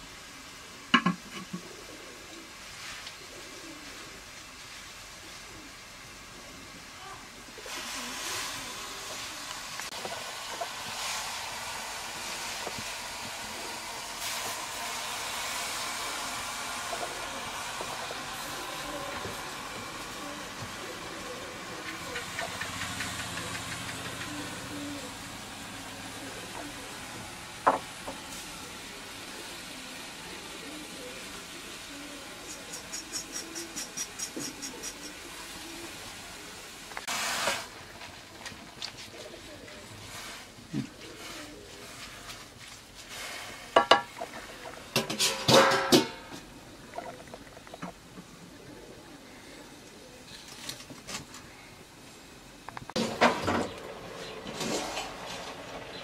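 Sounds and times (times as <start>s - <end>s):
leaves sizzling in a pot: 0.0s - 56.0s.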